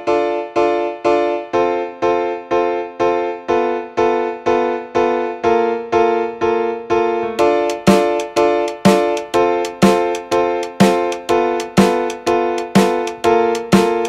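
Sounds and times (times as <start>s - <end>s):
electric piano playing chords: 0.0s - 14.0s.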